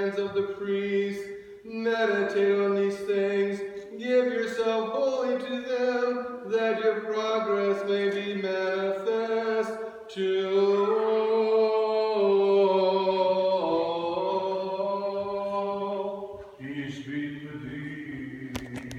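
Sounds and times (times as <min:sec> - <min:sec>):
lower voice chanting: 0:00.0 - 0:18.9
man chanting: 0:00.0 - 0:18.9.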